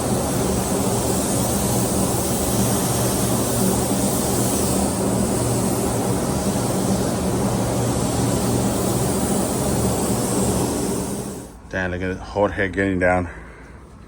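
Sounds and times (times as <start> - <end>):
loud air hiss: 0.0 - 11.6.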